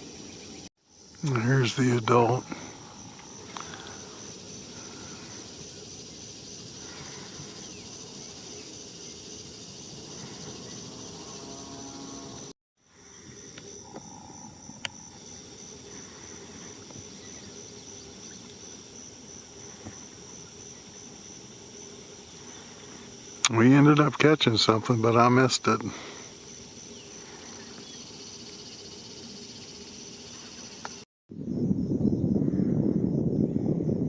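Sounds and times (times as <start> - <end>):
high-pitched pulsing insect chirring: 0.0 - 34.0.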